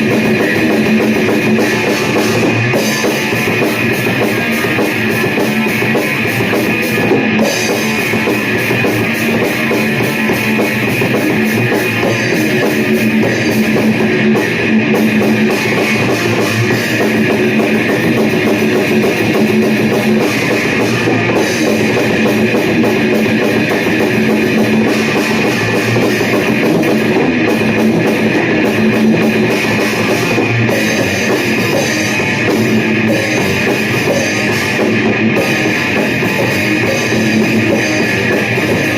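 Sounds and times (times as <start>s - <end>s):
loud rock music: 0.0s - 38.9s.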